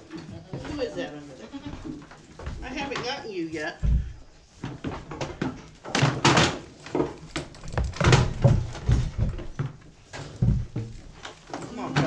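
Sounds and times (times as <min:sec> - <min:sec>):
goat hooves on wooden stand: 0:00.0 - 0:12.0.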